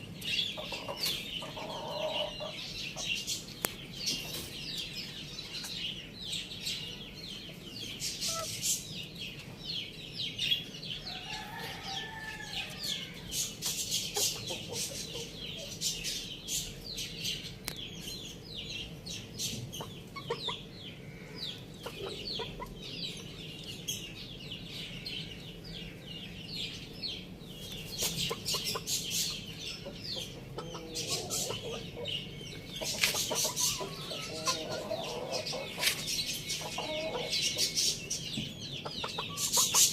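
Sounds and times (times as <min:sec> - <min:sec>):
chickens clucking: 0:00.0 - 0:09.9, 0:10.5 - 0:26.0, 0:26.7 - 0:39.9.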